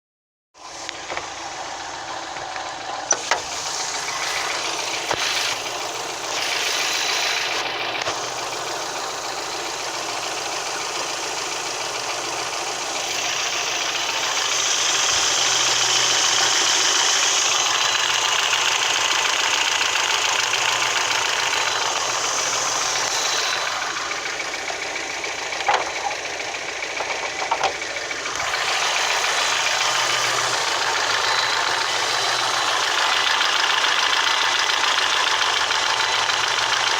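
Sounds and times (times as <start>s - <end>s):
car engine running with a knock: 0.6s - 36.9s.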